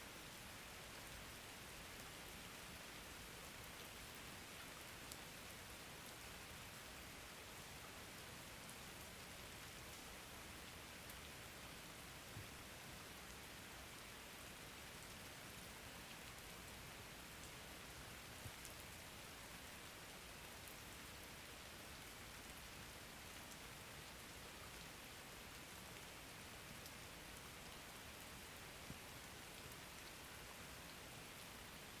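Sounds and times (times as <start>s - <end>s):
soft steady rain: 0.0s - 32.0s.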